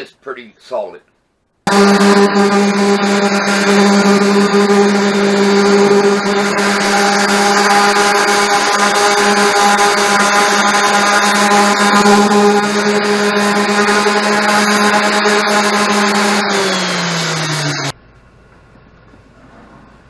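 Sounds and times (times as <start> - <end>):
electric sander running: 1.7 - 18.0.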